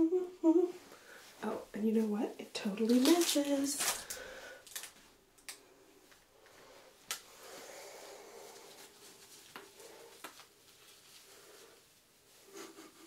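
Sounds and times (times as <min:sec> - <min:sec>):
wig fibres rustling: 0:00.8 - 0:12.8.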